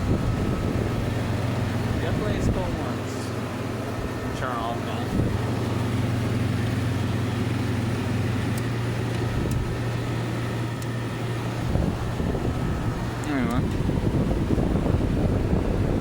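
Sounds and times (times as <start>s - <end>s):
air conditioner compressor hum: 0.0s - 16.0s
fan and air noise: 0.0s - 16.0s.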